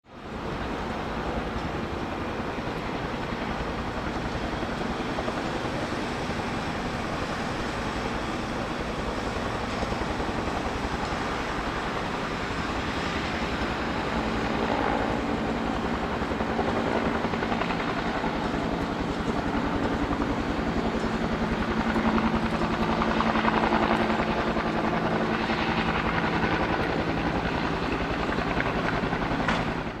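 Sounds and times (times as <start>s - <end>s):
turboprop engine roaring: 0.1s - 30.0s.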